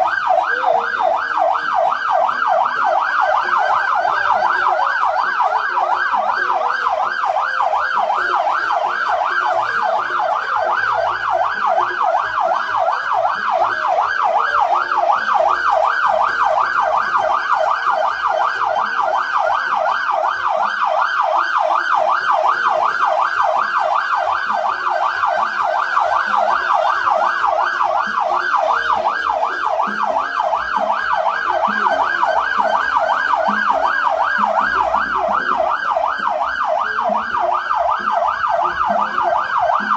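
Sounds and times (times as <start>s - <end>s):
siren yelping: 0.0s - 39.9s.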